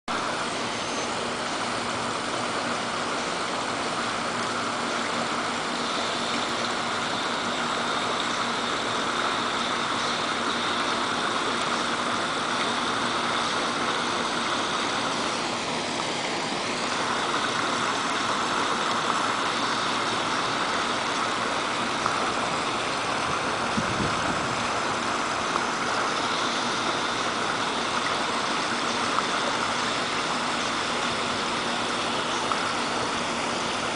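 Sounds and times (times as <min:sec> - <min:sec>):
water splashing from a pool feature: 0:00.1 - 0:33.9.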